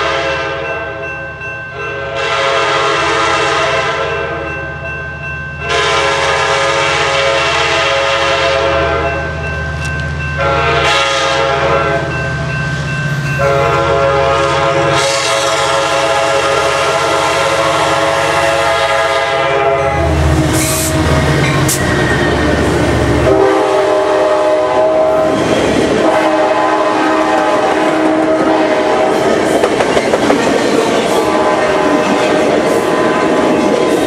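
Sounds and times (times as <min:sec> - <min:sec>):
train horn blowing: 0:00.0 - 0:01.0, 0:01.8 - 0:04.6, 0:05.6 - 0:09.3, 0:10.4 - 0:12.2, 0:13.3 - 0:29.6, 0:30.9 - 0:33.8.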